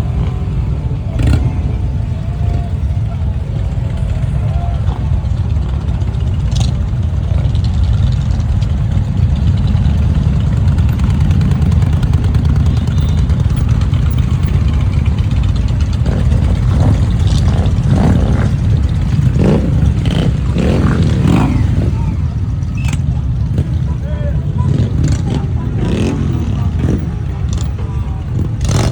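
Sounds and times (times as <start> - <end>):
motorcycle engines rumbling: 0.0 - 28.9.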